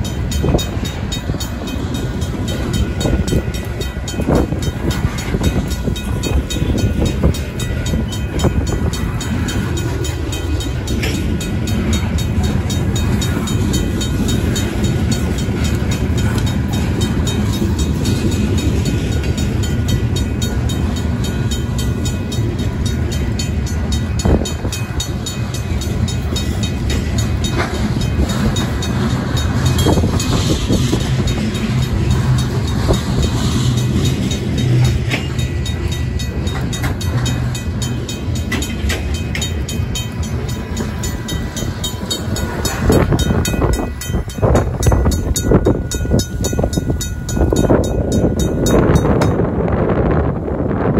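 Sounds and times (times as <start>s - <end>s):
wind gusts on microphone: 0.0s - 37.8s, 39.6s - 50.9s
crossing bell ringing: 0.0s - 50.8s
freight train rolling over rails: 0.0s - 50.9s.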